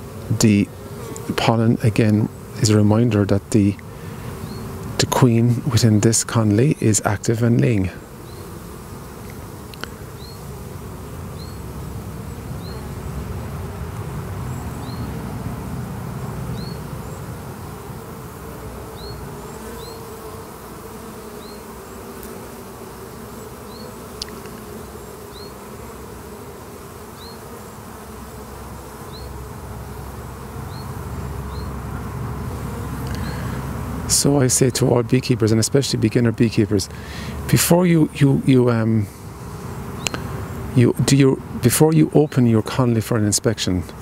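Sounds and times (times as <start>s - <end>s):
bees buzzing: 0.0s - 44.0s.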